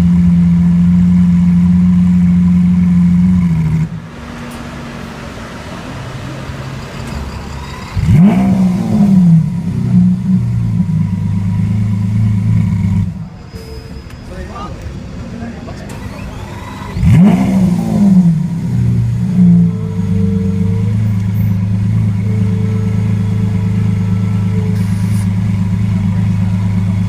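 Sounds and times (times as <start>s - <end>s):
car engine running and revving: 0.0s - 13.4s, 15.7s - 27.0s.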